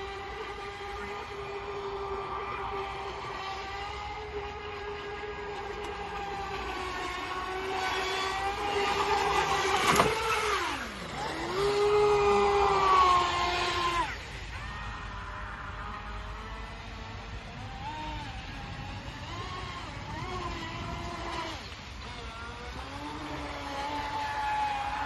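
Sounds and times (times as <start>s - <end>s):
model boat motor whining: 0.0s - 25.0s.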